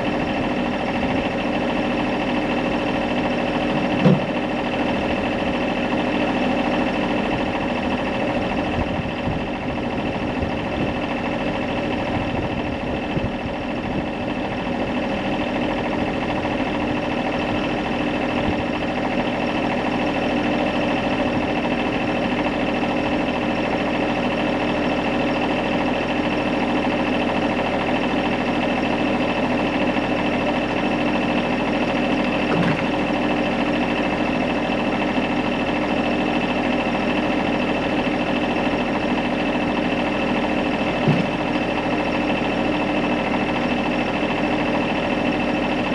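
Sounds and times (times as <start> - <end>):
engine droning hum: 0.0 - 45.9.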